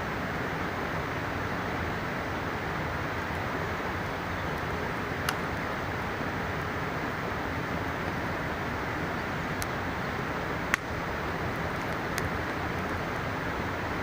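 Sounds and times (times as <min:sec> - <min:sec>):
river rushing: 0:00.0 - 0:14.0
campfire crackling and popping: 0:02.4 - 0:14.0.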